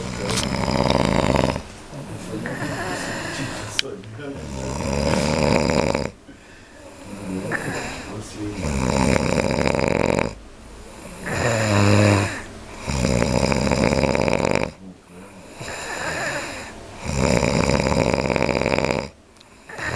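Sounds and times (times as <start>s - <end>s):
man snoring: 0.0s - 6.2s, 6.8s - 19.9s.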